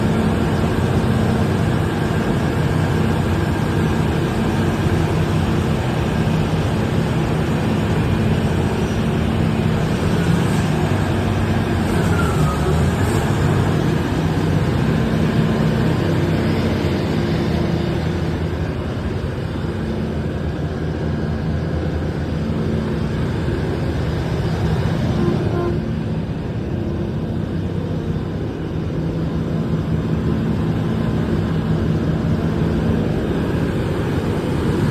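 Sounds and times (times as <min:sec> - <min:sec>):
excavator engine running: 0:00.0 - 0:34.9.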